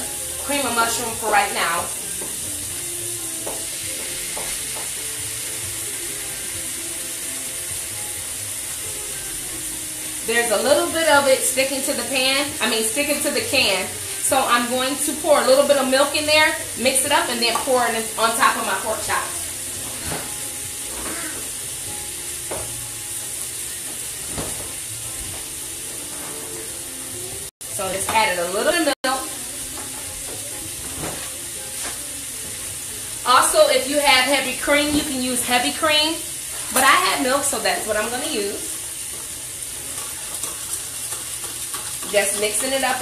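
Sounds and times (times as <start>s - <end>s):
meat sizzling in a frying pan: 0.0s - 43.0s.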